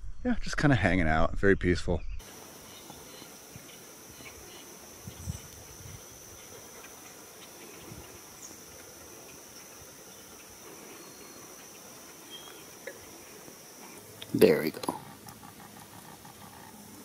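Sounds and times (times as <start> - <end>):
high-pitched insect chorus: 2.2 - 17.0.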